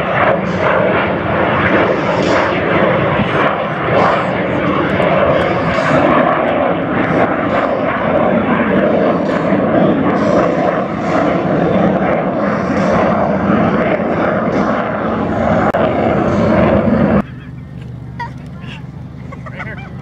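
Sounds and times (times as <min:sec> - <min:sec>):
jet fly-by roar: 0:00.0 - 0:20.0.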